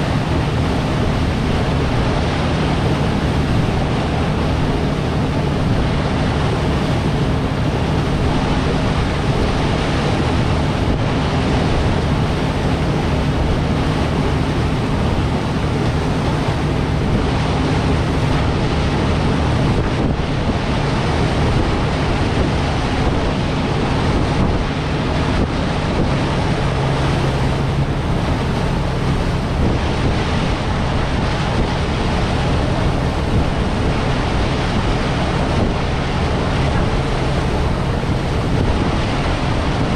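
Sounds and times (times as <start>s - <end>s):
boat engine hum: 0.0s - 39.9s
water rushing along hull: 0.0s - 39.9s
wind buffeting microphone: 0.0s - 39.9s.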